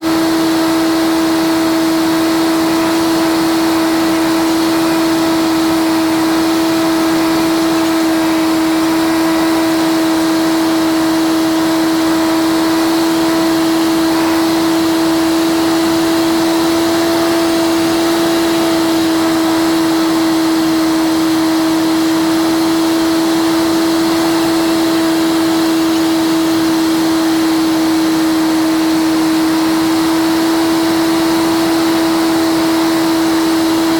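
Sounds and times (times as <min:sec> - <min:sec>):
high-pitched aircraft engine hum: 0:00.0 - 0:33.9
hiss: 0:00.0 - 0:33.9.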